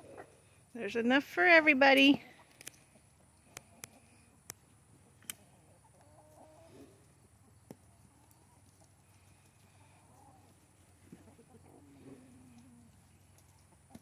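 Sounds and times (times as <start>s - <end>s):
chickens clucking: 0.0s - 0.6s, 2.2s - 14.0s
chicken calls: 2.4s - 14.0s.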